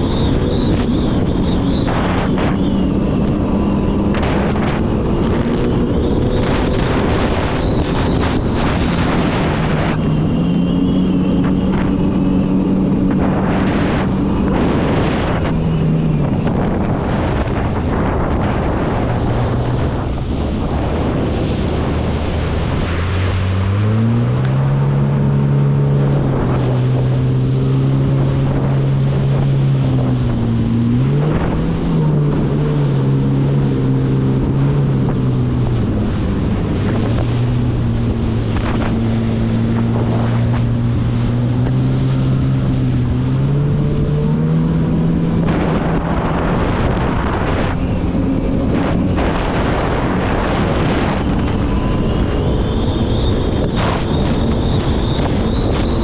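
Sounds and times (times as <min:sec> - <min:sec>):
jet ski engine revving: 0:00.0 - 0:56.0
rush of wind and water: 0:00.0 - 0:56.0.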